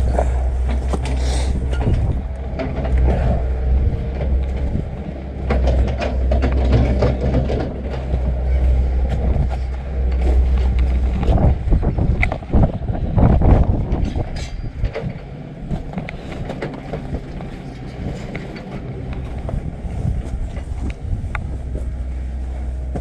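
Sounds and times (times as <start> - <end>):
footsteps on trail: 0.0 - 12.6, 15.6 - 23.0
wind buffeting microphone: 0.0 - 23.0.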